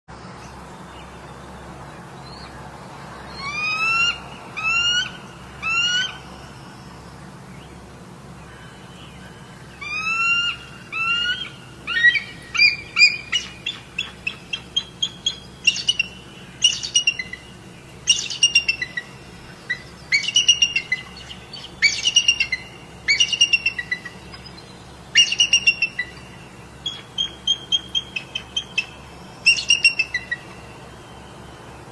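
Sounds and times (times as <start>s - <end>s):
bird calling with whistled notes: 3.2s - 7.8s, 8.4s - 31.9s.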